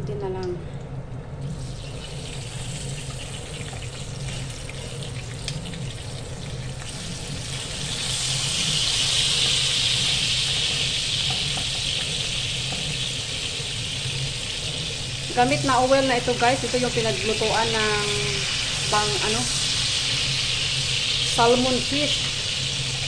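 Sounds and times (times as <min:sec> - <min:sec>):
fish sizzling in hot oil: 0:01.5 - 0:23.0.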